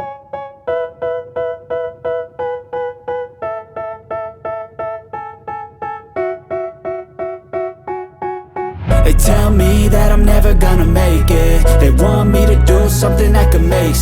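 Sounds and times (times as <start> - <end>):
piano chords repeating: 0.0 - 14.0.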